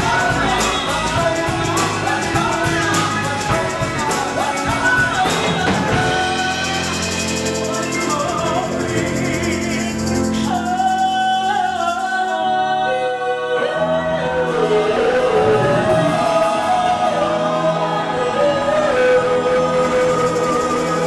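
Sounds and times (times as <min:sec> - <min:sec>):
gospel group singing in harmony: 0:00.0 - 0:21.0
live band playing: 0:00.0 - 0:21.0.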